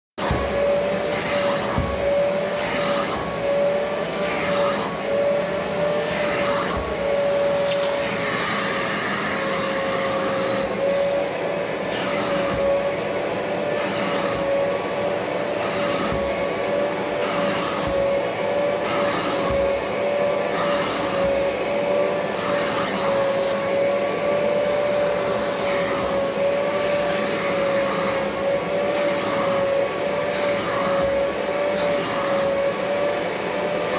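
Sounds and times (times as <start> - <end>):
nozzle suction on fabric: 0.2 - 33.9
vacuum motor whine: 0.2 - 33.9.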